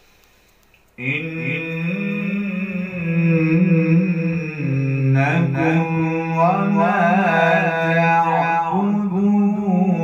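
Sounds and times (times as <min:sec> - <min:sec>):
man chanting recitation: 0:01.0 - 0:10.0.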